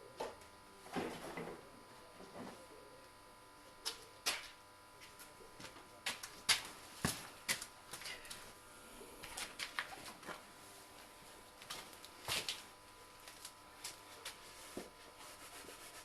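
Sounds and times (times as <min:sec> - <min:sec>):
faint thin hum: 0:00.0 - 0:16.0.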